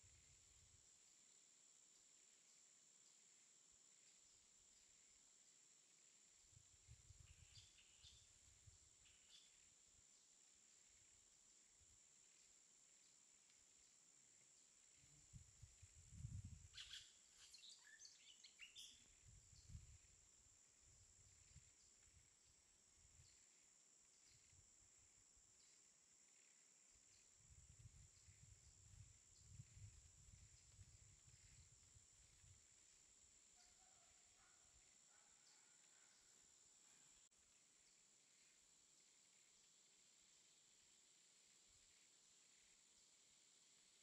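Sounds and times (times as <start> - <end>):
faint chirps: 0.0 - 44.0
faint hiss: 0.0 - 44.0.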